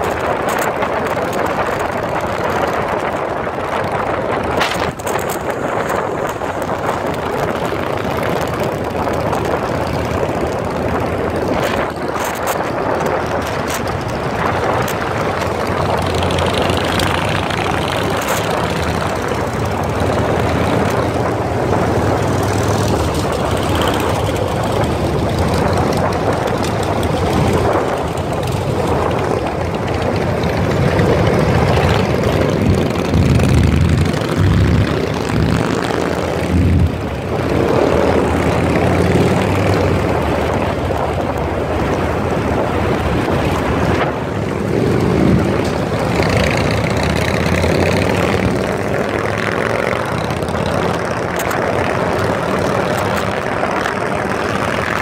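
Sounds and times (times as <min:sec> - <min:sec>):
motorcycle engines running: 0:00.0 - 0:55.0.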